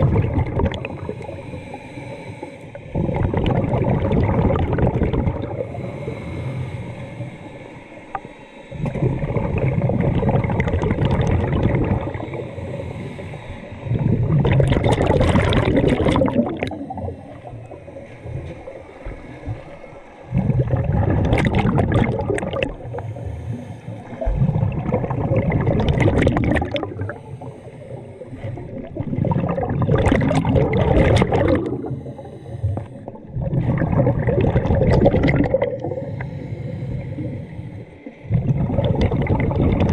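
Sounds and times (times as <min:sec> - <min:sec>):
bubbles gurgling underwater: 0:00.0 - 0:01.4, 0:02.9 - 0:05.9, 0:08.8 - 0:12.7, 0:13.9 - 0:36.2, 0:38.2 - 0:39.9
diver breathing through regulator: 0:00.7 - 0:04.4, 0:05.3 - 0:10.6, 0:11.2 - 0:39.9.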